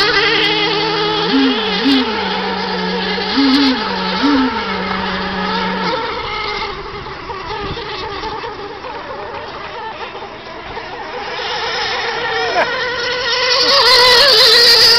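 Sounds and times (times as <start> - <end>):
high-pitched engine whine: 0.0 - 14.9
lower engine note wobbling: 0.0 - 14.9.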